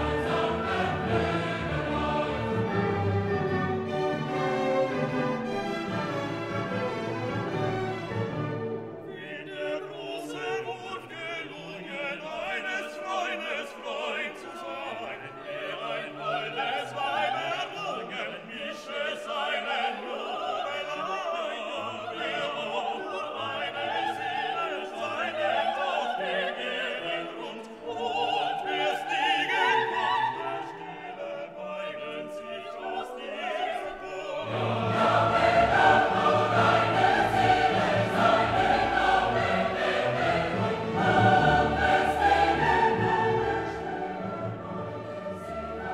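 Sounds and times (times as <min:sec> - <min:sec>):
classical singing over orchestra: 0:00.0 - 0:45.9.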